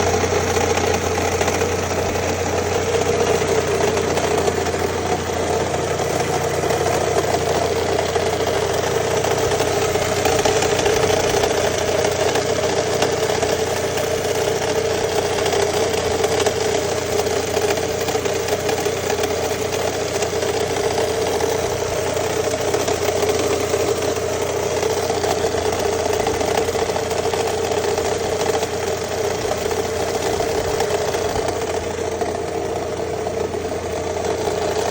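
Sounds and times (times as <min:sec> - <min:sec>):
engine idling with knocking: 0:00.0 - 0:34.9.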